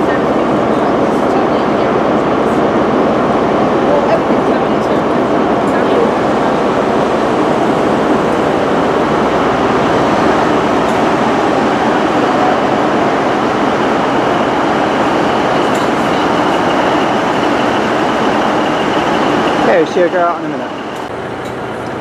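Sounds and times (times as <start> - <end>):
diesel train engines idling: 0.0 - 22.0.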